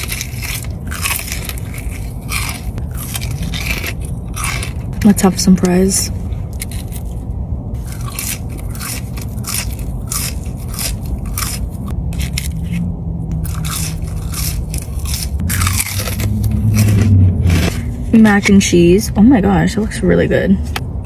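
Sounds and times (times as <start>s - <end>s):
chewing crispy fried food: 0.0s - 18.1s.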